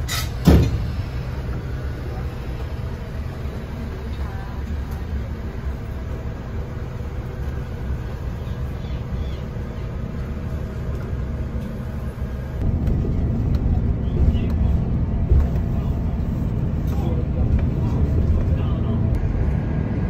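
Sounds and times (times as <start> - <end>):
coach engine and road rumble: 0.0 - 20.0.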